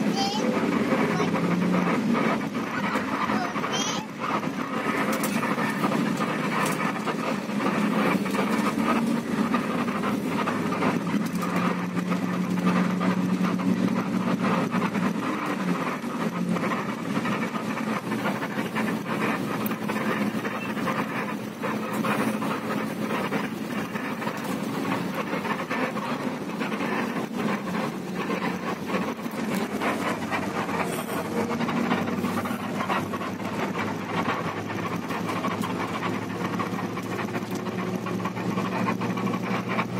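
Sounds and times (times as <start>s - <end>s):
bus engine drone: 0.0s - 39.9s
road noise rumble: 0.0s - 39.9s.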